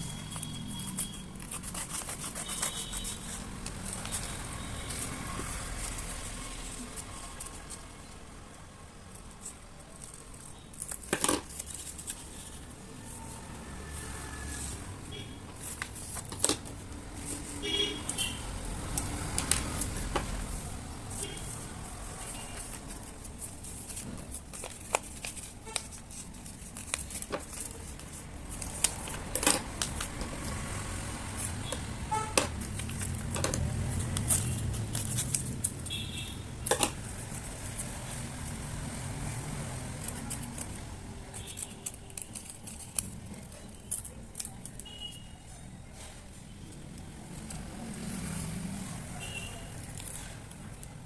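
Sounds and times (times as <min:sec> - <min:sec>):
paper clicks and rustles: 0:00.1 - 0:08.2, 0:09.1 - 0:38.6, 0:39.8 - 0:45.3, 0:49.2 - 0:51.0.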